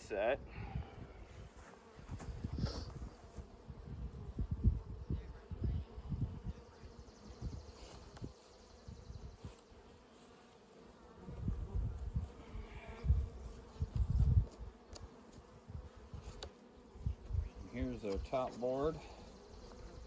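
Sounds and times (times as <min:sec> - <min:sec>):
bees buzzing: 0:01.1 - 0:20.0.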